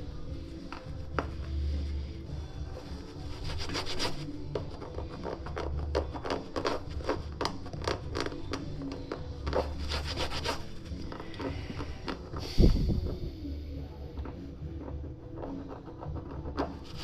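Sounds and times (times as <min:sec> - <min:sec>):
rubber tyre rubbing and scraping: 0:00.0 - 0:13.3, 0:14.3 - 0:17.0.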